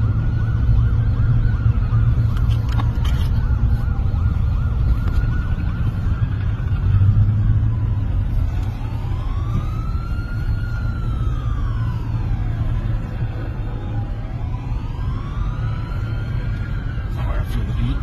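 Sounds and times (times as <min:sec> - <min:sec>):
emergency vehicle siren: 0:00.0 - 0:18.0.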